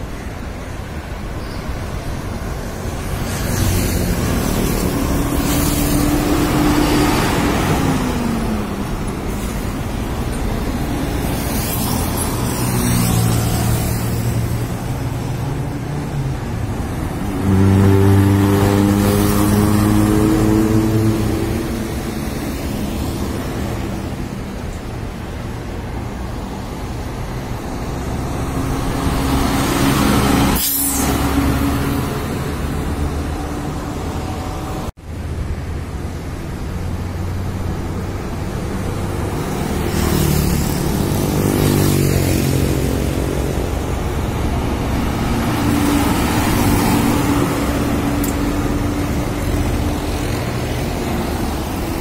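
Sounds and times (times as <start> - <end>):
road traffic passing: 0.0 - 52.0.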